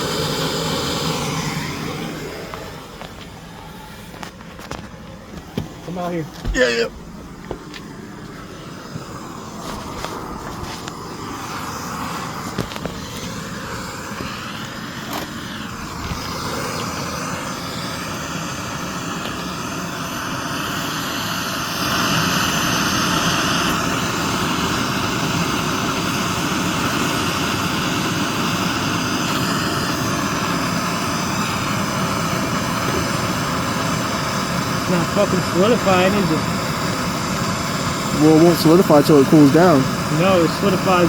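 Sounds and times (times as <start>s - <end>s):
gas torch flame blowing: 0.0s - 41.0s.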